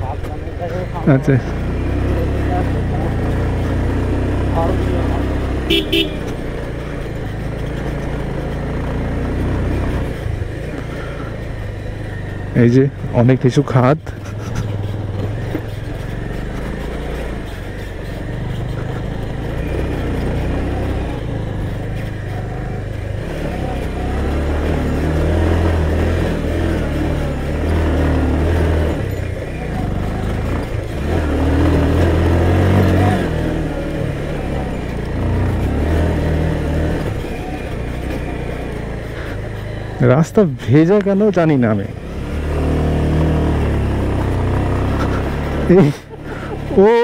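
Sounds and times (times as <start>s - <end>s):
off-road motorcycle engine revving: 0.0s - 47.0s.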